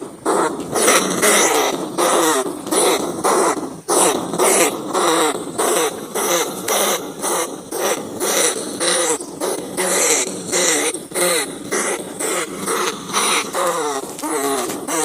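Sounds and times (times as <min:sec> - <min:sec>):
rats squealing: 0:00.0 - 0:15.0.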